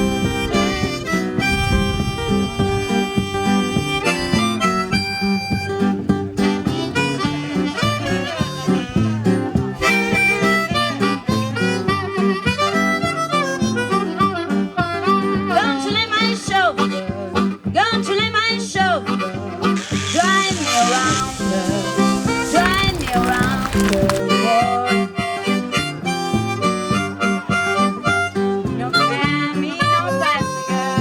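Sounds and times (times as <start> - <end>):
harmonica melody: 0.0 - 18.2, 18.9 - 31.0
guitar accompaniment: 0.0 - 31.0.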